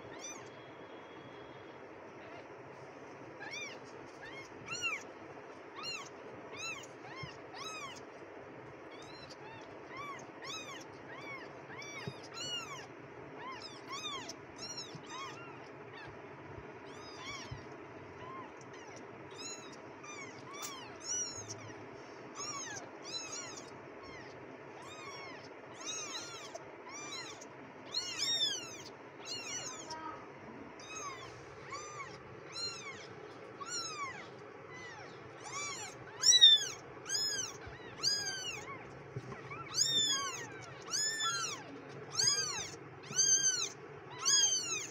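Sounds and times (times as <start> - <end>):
kittens mewing: 0.0 - 0.8, 2.1 - 44.9.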